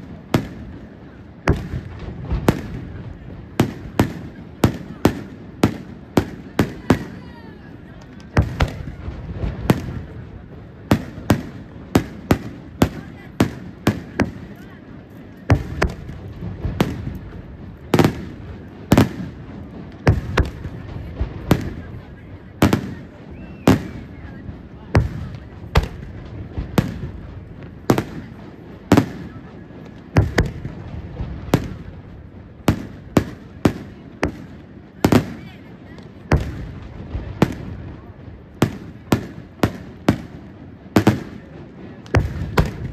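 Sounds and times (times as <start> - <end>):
firework pops: 0.0 - 7.2, 7.9 - 10.2, 10.8 - 22.0, 22.6 - 24.3, 24.9 - 42.9
firework shells booming: 0.0 - 7.2, 15.4 - 42.9.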